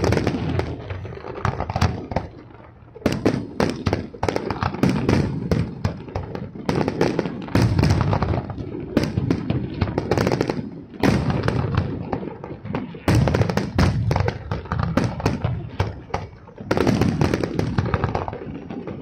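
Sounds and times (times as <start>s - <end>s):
heavy firework booms: 0.0s - 2.4s, 3.0s - 19.0s
fireworks bursts and crackling: 0.0s - 19.0s.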